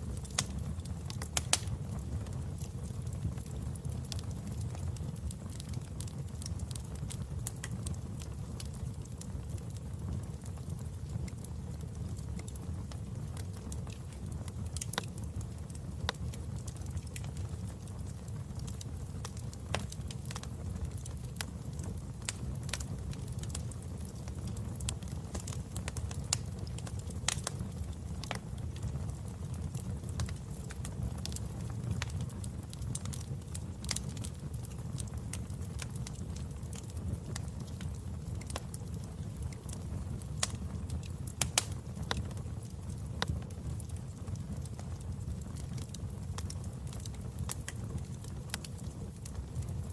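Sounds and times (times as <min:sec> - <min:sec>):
flame rumbling: 0:00.0 - 0:49.9
wood fire crackling: 0:00.0 - 0:49.9.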